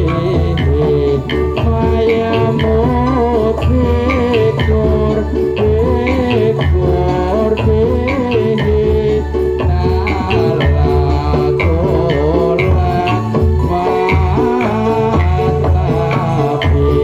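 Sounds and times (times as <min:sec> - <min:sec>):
hand drums and bass drum: 0:00.0 - 0:17.0
wavering melody: 0:00.0 - 0:17.0.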